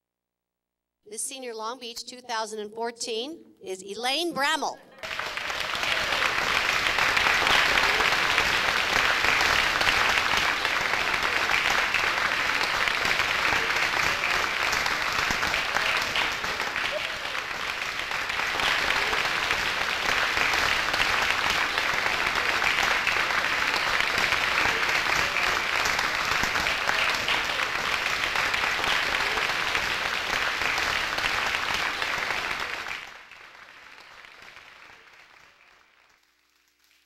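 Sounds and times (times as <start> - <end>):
audience applauding: 4.9 - 37.0.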